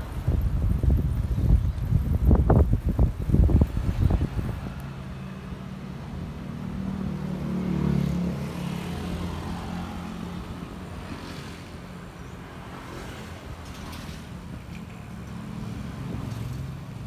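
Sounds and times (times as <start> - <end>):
motorbike engines passing: 0.0 - 17.0.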